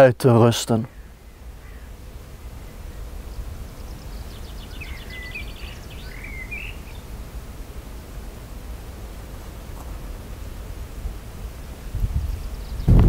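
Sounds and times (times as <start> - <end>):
songbird singing: 0.7 - 13.0
low wind noise: 0.9 - 13.0.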